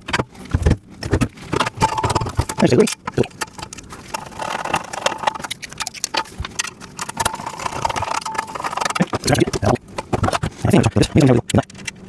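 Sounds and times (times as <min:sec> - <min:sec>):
metal parts clicking and knocking: 0:00.0 - 0:12.0.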